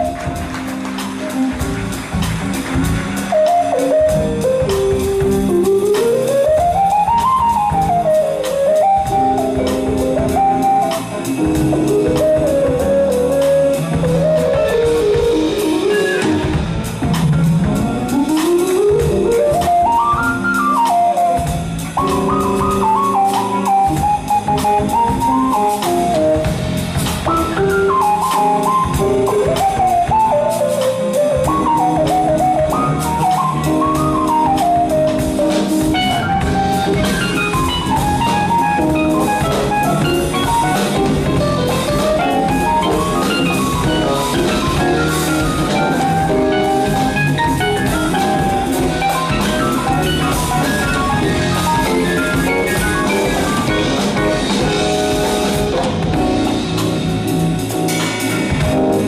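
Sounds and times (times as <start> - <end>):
bass: 0.0 - 59.0
drum kit: 0.0 - 59.0
guitar: 0.0 - 59.0.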